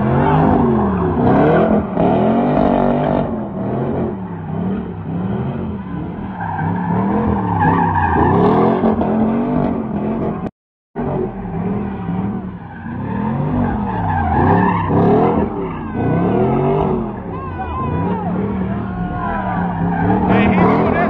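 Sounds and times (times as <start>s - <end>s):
tyres squealing on asphalt: 0.0s - 10.4s, 11.1s - 21.0s
car engine revving: 0.0s - 21.0s.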